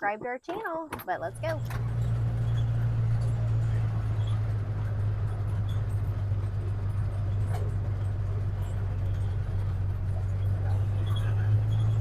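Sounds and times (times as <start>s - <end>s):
faint rattling: 0.9s - 12.0s
vehicle engine running: 1.1s - 12.0s.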